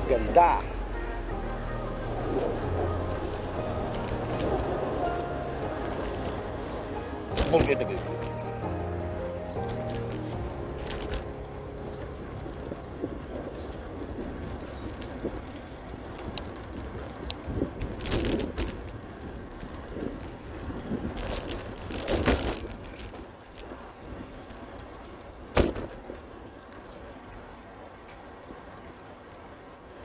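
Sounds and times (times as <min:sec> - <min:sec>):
bicycle tyre road noise: 0:00.0 - 0:30.0
bicycle clicks and rattles: 0:02.3 - 0:30.0.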